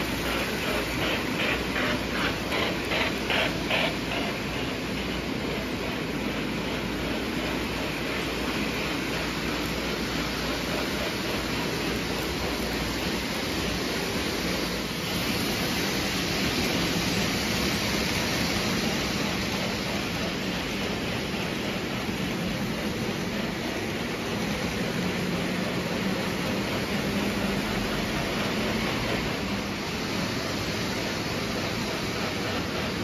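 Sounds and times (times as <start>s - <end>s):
model train rumbling on track: 0.0s - 33.0s.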